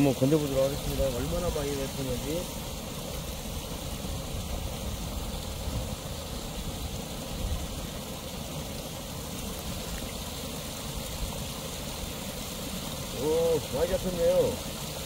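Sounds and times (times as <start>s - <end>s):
water rushing in creek: 0.0s - 15.0s.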